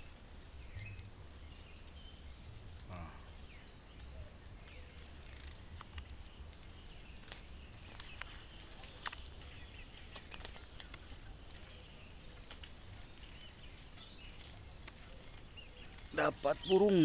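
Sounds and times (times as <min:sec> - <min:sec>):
steady soft hiss: 0:00.0 - 0:16.3.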